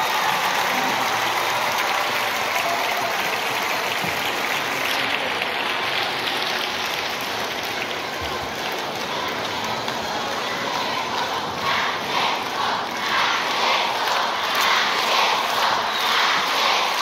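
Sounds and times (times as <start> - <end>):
crowd of children applauding: 0.0 - 17.0.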